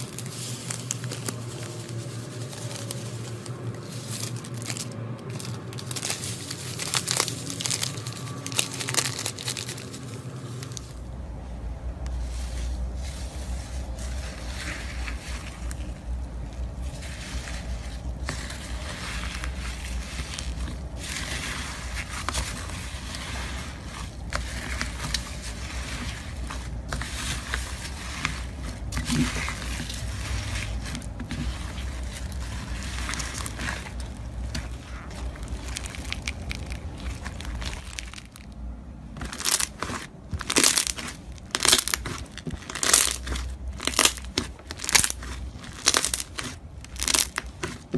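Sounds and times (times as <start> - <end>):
slime crackling and crunching: 0.0 - 47.9.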